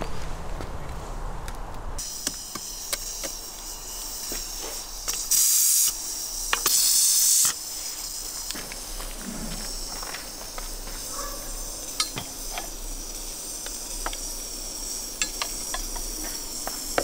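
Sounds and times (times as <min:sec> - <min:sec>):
charcoal grill hissing and crackling: 0:02.0 - 0:17.0
loud bursts of hiss: 0:02.0 - 0:17.0.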